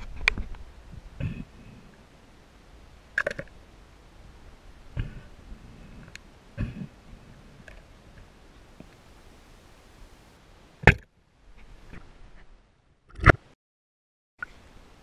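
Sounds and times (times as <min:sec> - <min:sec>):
low hiss: 0:00.5 - 0:12.3, 0:14.4 - 0:15.0.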